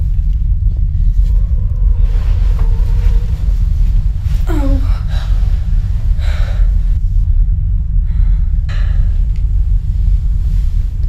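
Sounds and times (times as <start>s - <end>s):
deep continuous rumble: 0.0s - 11.0s.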